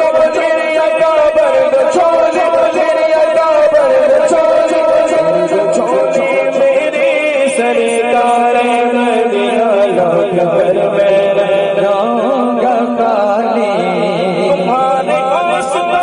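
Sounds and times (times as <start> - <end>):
man singing into a microphone: 0.0 - 16.0
steady held drone: 0.0 - 16.0.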